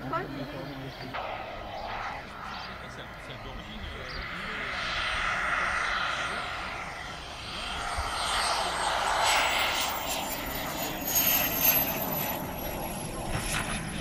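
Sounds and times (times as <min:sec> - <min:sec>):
model jet engine whine: 0:00.0 - 0:14.0
steady rushing noise: 0:00.9 - 0:14.0.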